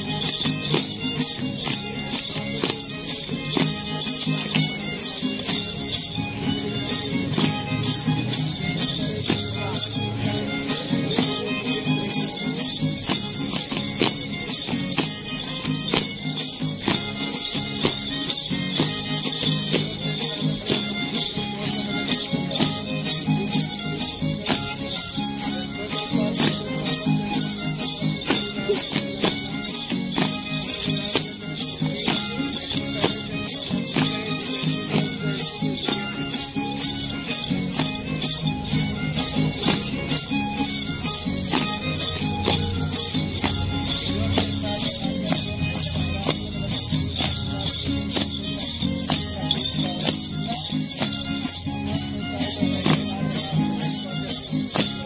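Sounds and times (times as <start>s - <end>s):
guitar playing: 0.0s - 55.0s
violin playing: 0.0s - 55.0s.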